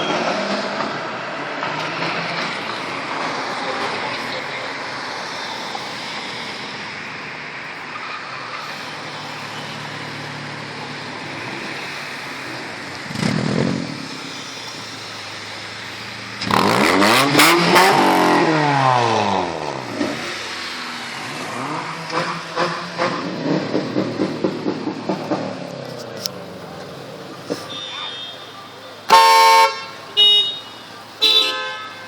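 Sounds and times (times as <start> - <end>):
loud car accelerating past: 0.0 - 27.3
traffic noise: 0.0 - 32.0.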